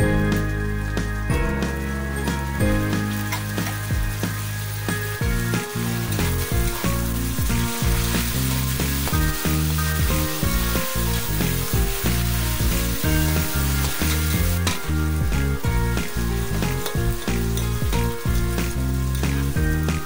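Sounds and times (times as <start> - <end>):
background music with bass: 0.0 - 20.0
oil sizzling in a wok: 0.0 - 20.0.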